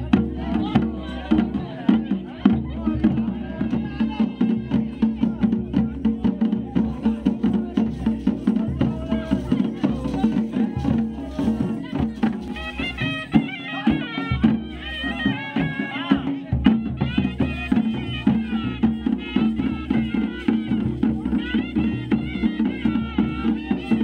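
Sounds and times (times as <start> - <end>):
drumbeat: 0.0 - 24.0
wind instrument melody: 3.9 - 24.0.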